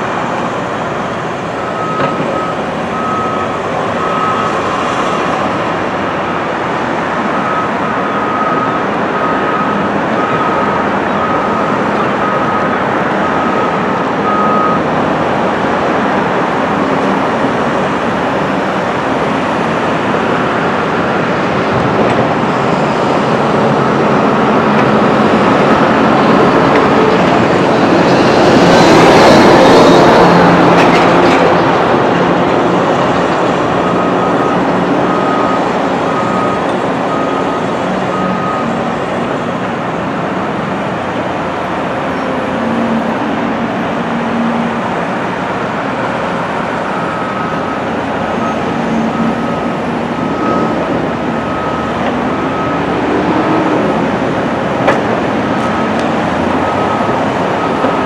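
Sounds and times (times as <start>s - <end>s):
excavator diesel engines and hydraulics: 0.0s - 58.0s.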